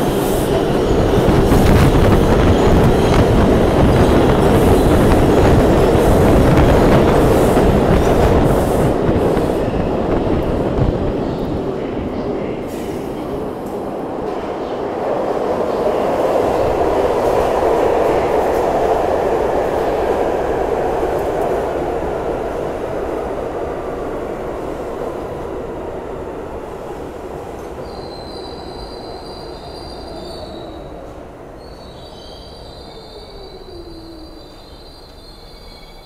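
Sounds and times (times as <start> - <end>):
subway train wheels rumbling: 0.0 - 36.0.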